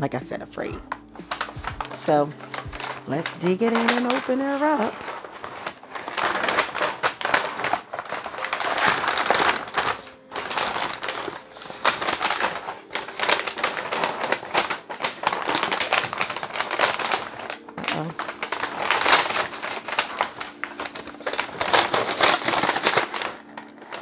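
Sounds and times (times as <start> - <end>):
packing paper rustling: 0.8 - 24.0.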